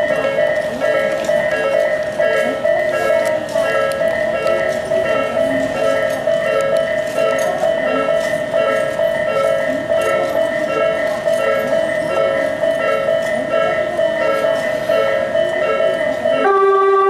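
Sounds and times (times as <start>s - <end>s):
crossing bell electronic clang: 0.0s - 17.0s
passing train: 0.0s - 17.0s.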